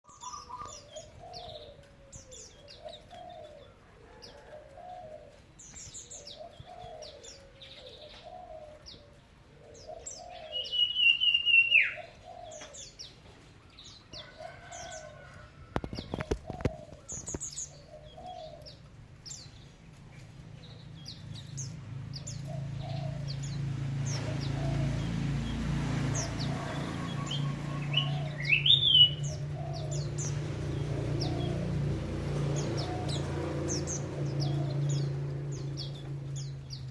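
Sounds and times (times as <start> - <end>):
small birds chirping: 0.0 - 36.9
dove cooing: 0.1 - 13.1, 14.1 - 36.9.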